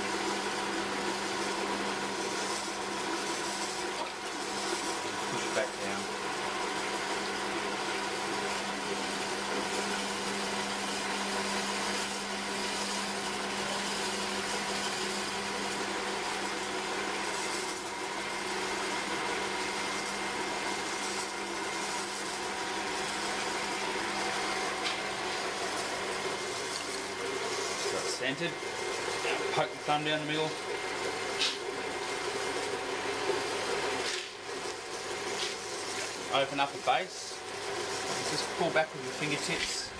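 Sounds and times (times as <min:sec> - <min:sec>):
potter's wheel motor hum: 0:00.0 - 0:39.9.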